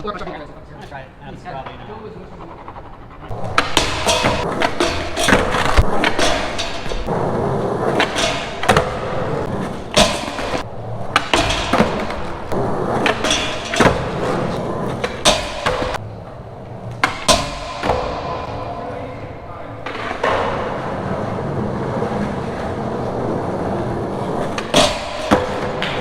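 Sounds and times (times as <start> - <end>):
skateboard wheels rolling on concrete: 0.0 - 26.0
skateboard clacks: 0.3 - 26.0.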